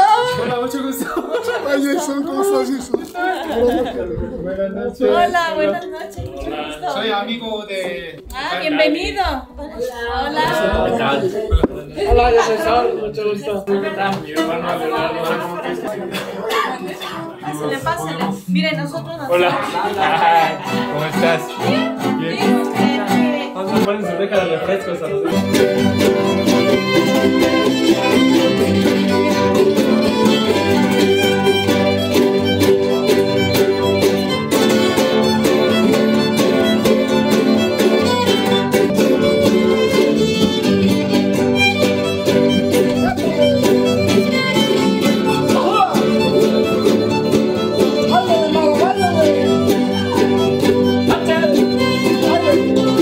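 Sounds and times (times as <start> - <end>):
folk music on string instruments: 0.0 - 53.0.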